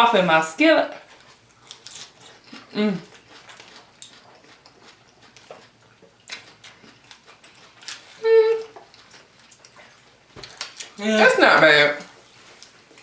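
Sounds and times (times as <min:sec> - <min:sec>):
soft chewing: 0:01.0 - 0:13.0.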